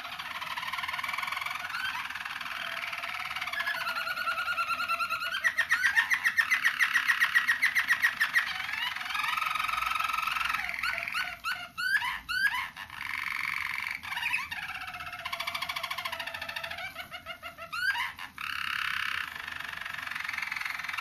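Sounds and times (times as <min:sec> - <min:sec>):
canaries singing trills: 0:00.0 - 0:21.0.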